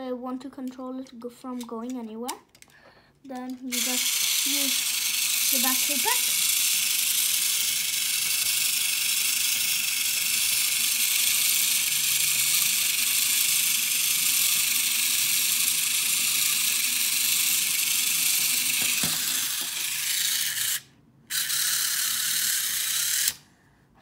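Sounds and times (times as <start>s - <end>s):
toy robot motor whirring: 3.4s - 23.4s.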